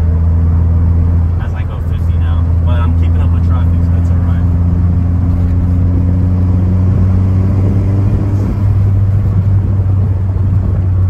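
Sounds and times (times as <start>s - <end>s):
engine drone inside car: 0.0s - 11.0s
road and tyre noise: 0.0s - 11.0s.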